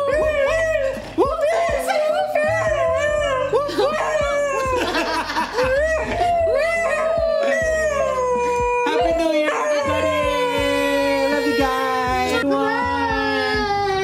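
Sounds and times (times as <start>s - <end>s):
dog howling: 0.0s - 14.0s.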